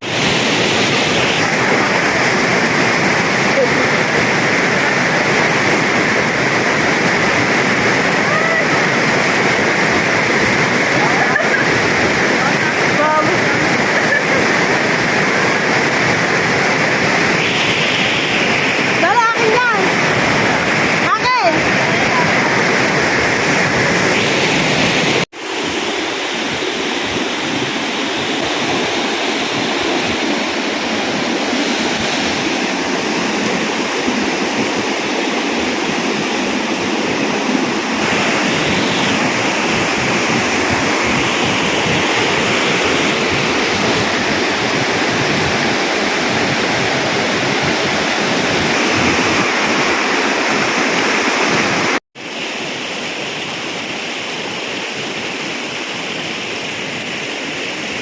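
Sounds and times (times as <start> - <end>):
waterfall pouring: 0.0 - 52.0.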